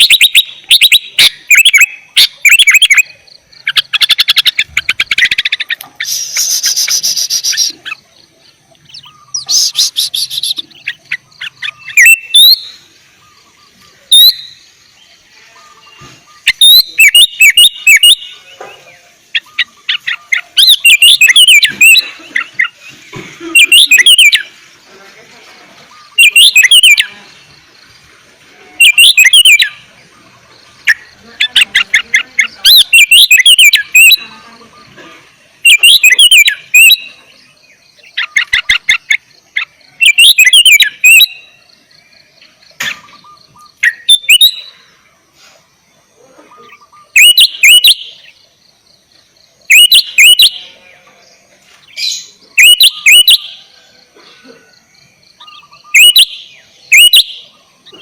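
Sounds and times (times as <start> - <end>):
bird singing whistled notes: 0.0 - 24.6, 25.8 - 28.0, 28.7 - 35.0, 35.6 - 45.0, 46.5 - 54.0, 55.1 - 58.0.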